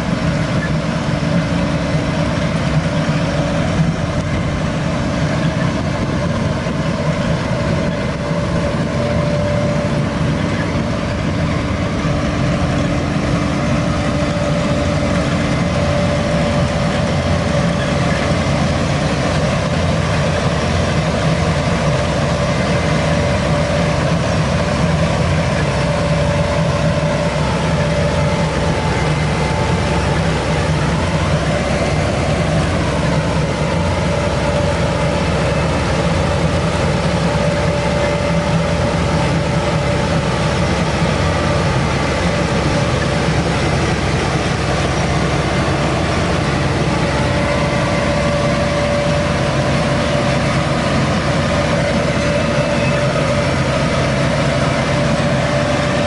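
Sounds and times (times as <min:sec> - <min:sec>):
harvester engine under load: 0:00.0 - 0:56.0
machine whining tone: 0:00.0 - 0:56.0.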